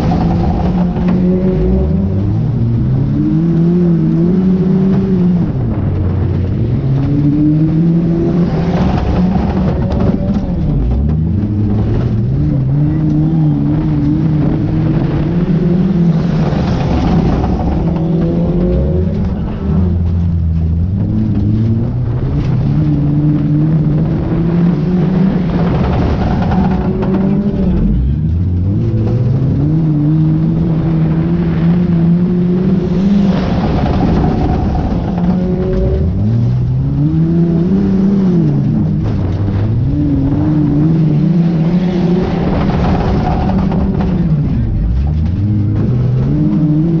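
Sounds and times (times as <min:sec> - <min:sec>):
race car engine revving: 0:00.0 - 0:47.0.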